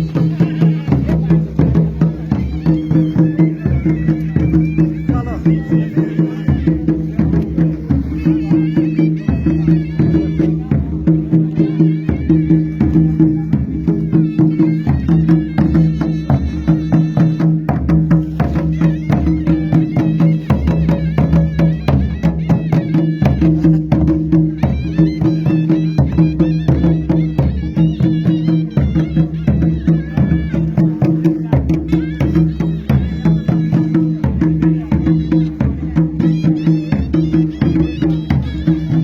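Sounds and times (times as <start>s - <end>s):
fast drum and percussion: 0.0s - 39.0s.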